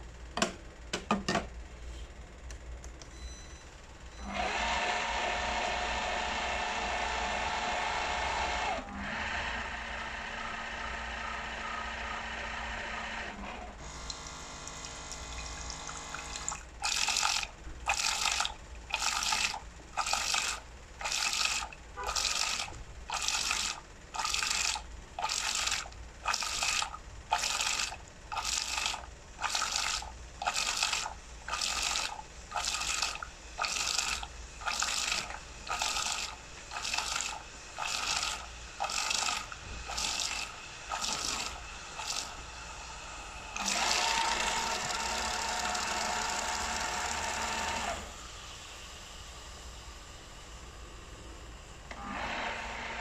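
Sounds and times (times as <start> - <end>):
coffee machine motor hum: 3.2 - 53.0.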